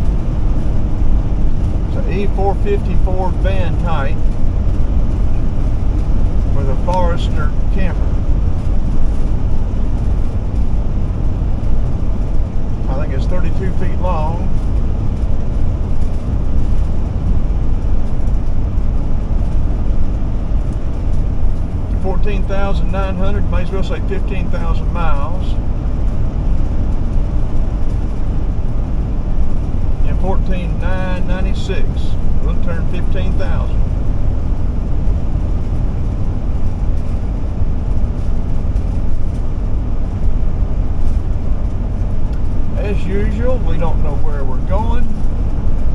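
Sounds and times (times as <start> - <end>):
vehicle road noise rumble: 0.0 - 45.9.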